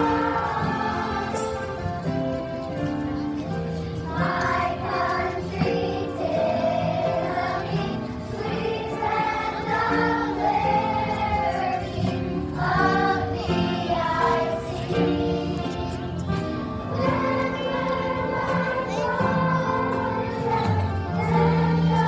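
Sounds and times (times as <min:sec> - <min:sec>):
children's choir singing: 0:00.0 - 0:22.0
instrumental accompaniment: 0:00.0 - 0:22.0.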